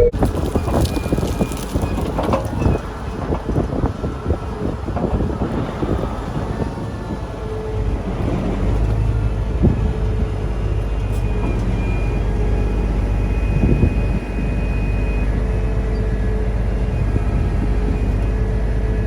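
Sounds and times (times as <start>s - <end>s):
diesel farm machinery running: 0.0s - 19.0s
machinery clunks: 0.0s - 19.0s.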